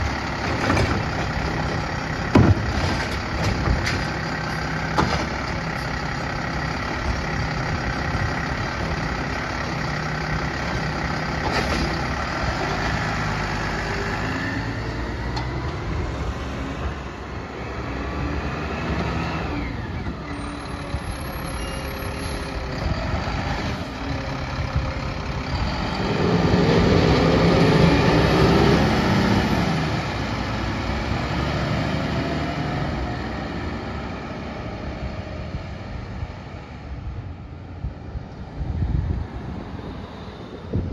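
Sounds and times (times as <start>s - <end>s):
garbage truck engine: 0.0s - 40.9s.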